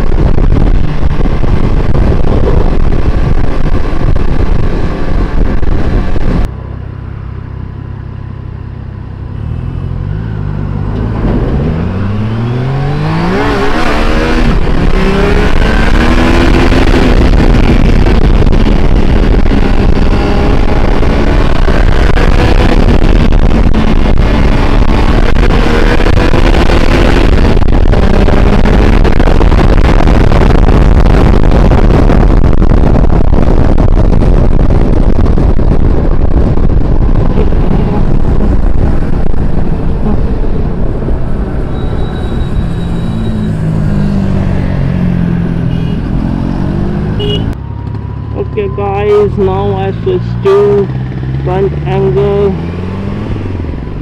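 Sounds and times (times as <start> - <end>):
wind on microphone: 0.0 - 6.5, 10.0 - 54.0
motorcycle engine revving: 9.1 - 54.0.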